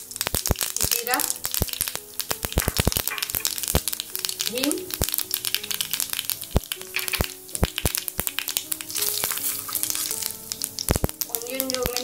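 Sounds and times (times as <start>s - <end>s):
mustard seeds popping in oil: 0.0s - 12.0s
oil sizzling: 0.0s - 12.0s.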